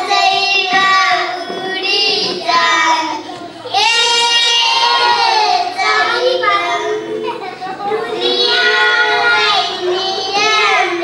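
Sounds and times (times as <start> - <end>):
boys singing together: 0.0 - 11.0.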